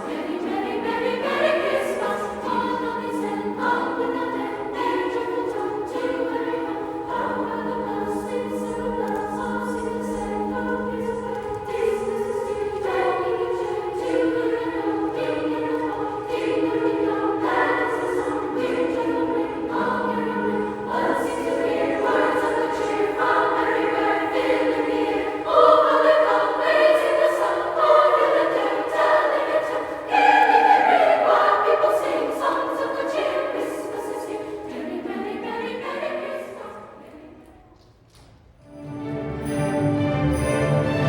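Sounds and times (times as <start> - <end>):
choir singing a slow song: 0.0 - 41.0.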